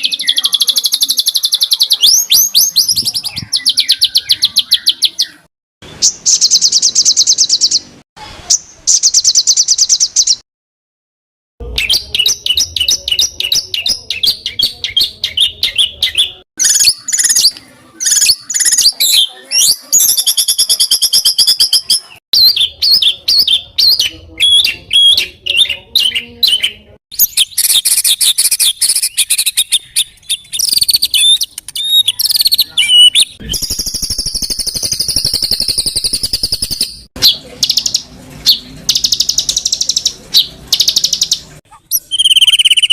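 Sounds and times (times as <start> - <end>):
songbird whistled trills and chirps: 0.0 - 7.9, 11.8 - 42.9.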